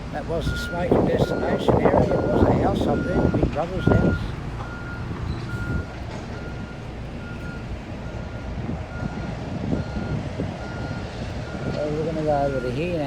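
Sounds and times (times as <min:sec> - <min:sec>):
reversing alarm beeping: 0:00.4 - 0:13.0.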